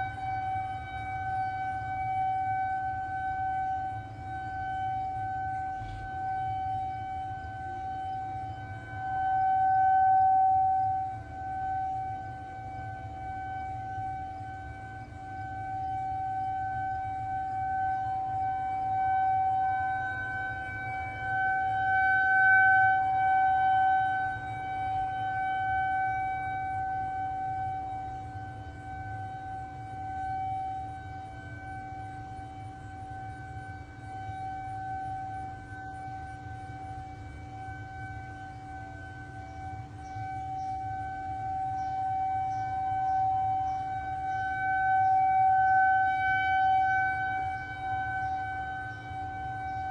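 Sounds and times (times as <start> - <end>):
warning siren steady tone: 0.0 - 49.9.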